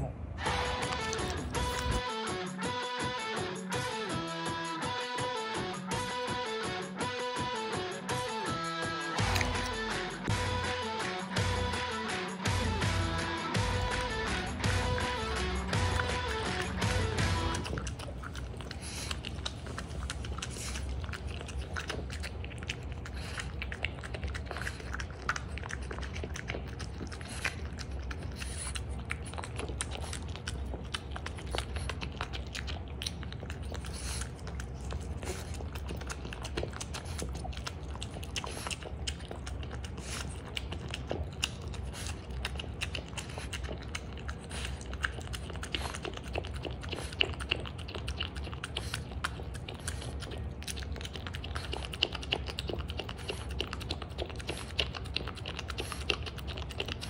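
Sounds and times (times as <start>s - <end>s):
dog chewing and licking: 0.4s - 57.0s.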